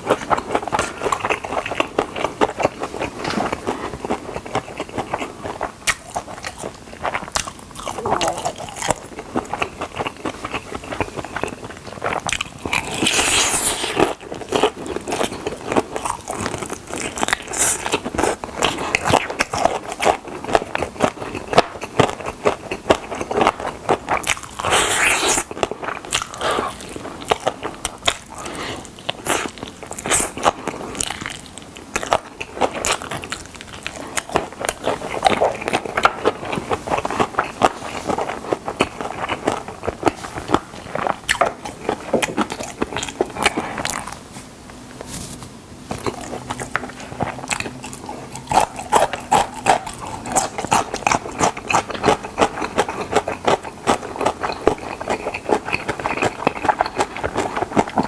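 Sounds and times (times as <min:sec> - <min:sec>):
crunching fried chicken: 0:00.0 - 0:58.0
wet chewing: 0:00.0 - 0:58.0.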